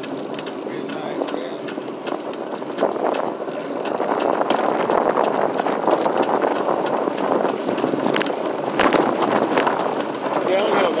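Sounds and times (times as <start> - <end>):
bicycle clicks and rattles: 0.0 - 11.0.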